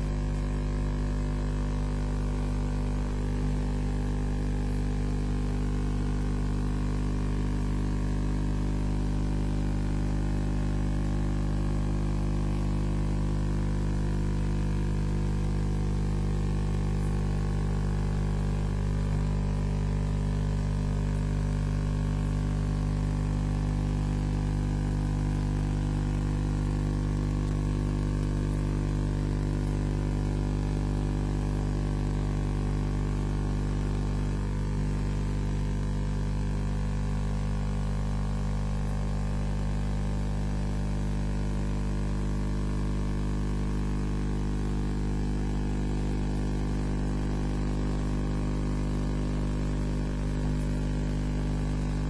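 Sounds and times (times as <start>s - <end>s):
electrical hum and buzz: 0.0s - 49.6s, 50.3s - 52.0s.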